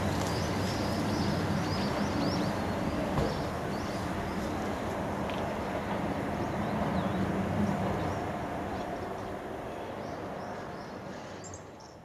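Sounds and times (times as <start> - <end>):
distant diesel railcar engine drone: 0.0 - 12.0
small birds chirping: 0.1 - 4.8, 5.4 - 12.0.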